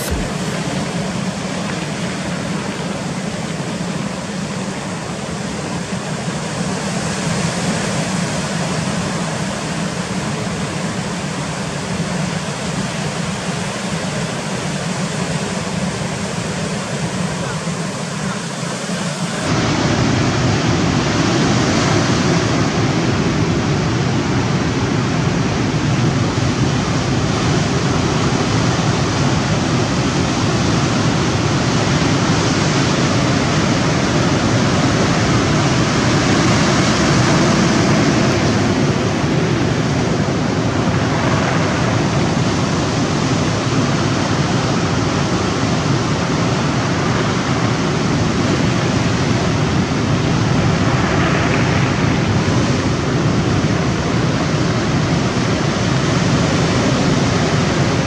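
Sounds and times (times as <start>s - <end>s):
sea rushing: 0.0s - 58.0s
wind: 0.0s - 58.0s.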